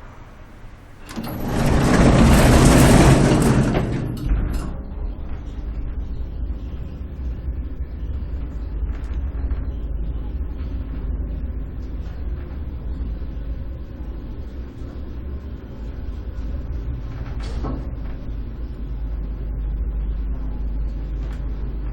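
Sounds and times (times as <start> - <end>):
elevator rumble and hum: 0.0 - 21.9
faint rattles and ticks: 0.9 - 21.9.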